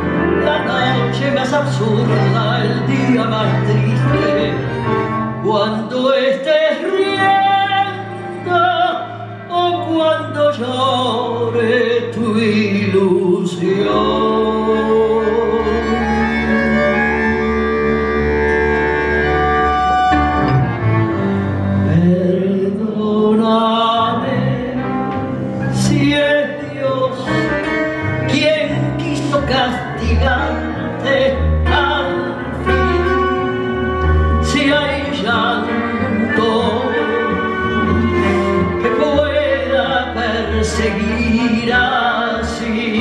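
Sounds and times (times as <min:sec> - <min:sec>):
small orchestra accompanying: 0:00.0 - 0:43.0
woman singing a tango: 0:00.4 - 0:17.0, 0:21.8 - 0:43.0.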